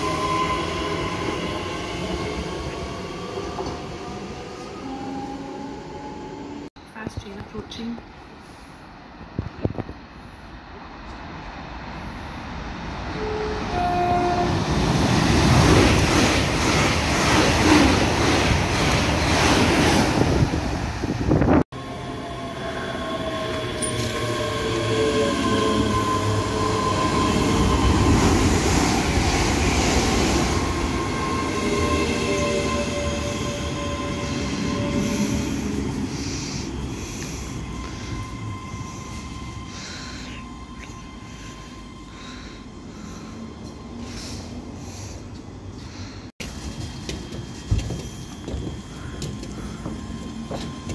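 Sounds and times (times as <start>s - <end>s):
train whine with falling tone: 0.0s - 6.7s, 9.7s - 50.9s
train rumble: 0.0s - 50.9s.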